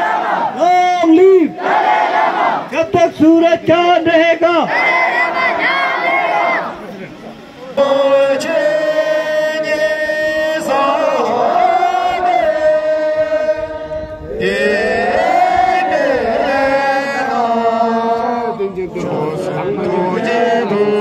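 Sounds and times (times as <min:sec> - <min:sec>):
group chanting in unison: 0:00.0 - 0:00.6, 0:01.4 - 0:02.8, 0:04.6 - 0:06.9, 0:07.6 - 0:21.0.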